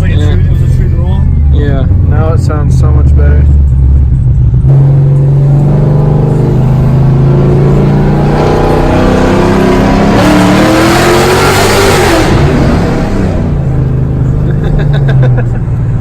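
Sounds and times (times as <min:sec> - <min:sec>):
loud car engine accelerating: 0:00.0 - 0:16.0.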